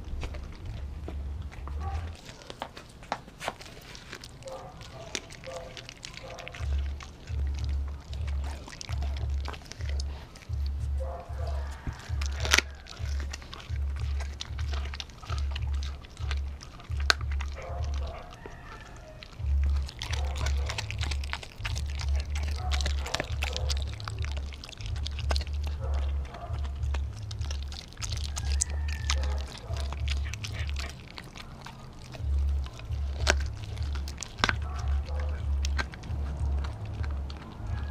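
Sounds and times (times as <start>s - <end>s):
low pulsing bass: 0.0s - 2.2s, 6.6s - 18.3s, 19.2s - 37.9s
dog chewing with wet smacking: 0.0s - 37.9s
teeth crunching bone: 0.0s - 37.9s.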